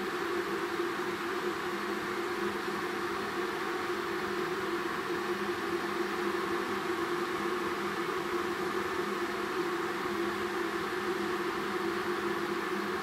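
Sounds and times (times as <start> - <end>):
electric kettle heating water: 0.0 - 13.0.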